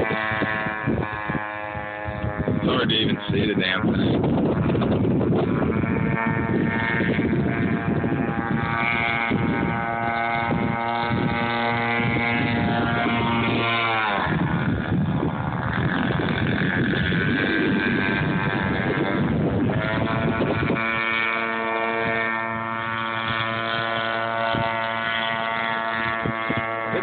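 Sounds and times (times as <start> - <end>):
toy boat motor running: 0.0 - 27.0.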